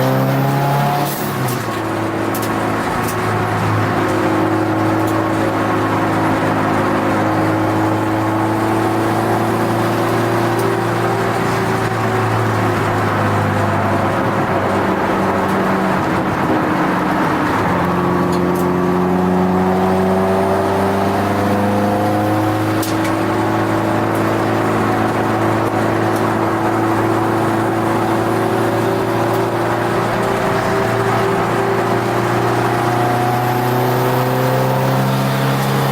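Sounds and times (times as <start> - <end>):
car engine running hard: 0.0 - 35.9.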